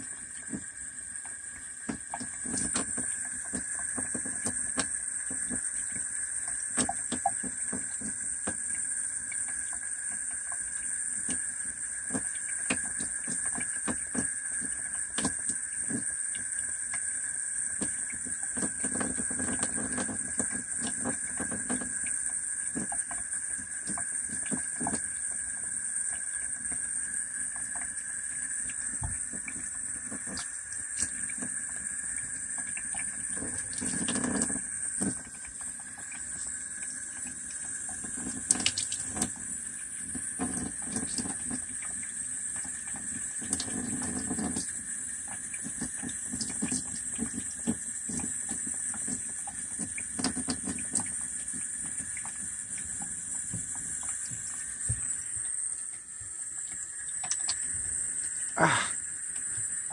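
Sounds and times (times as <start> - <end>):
water drips and splashes: 0.0 - 59.9
water running from faucet: 0.0 - 59.9.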